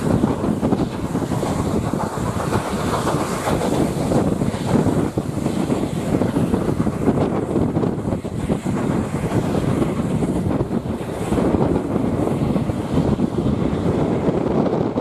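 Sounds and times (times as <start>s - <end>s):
train rumbling on track: 0.0s - 15.0s
wind rushing over microphone: 0.0s - 15.0s.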